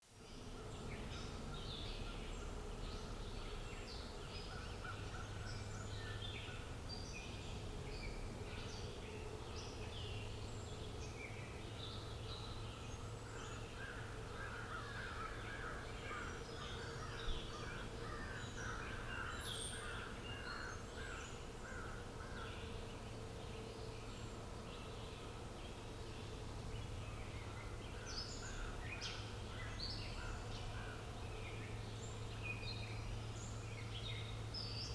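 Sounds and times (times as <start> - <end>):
birds chirping: 0.3 - 34.9.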